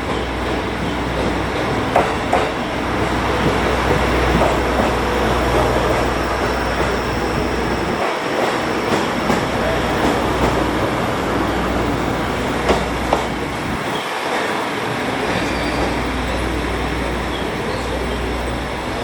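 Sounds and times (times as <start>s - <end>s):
railcar engine rumble: 0.0s - 19.0s
wheels on rails: 0.0s - 19.0s.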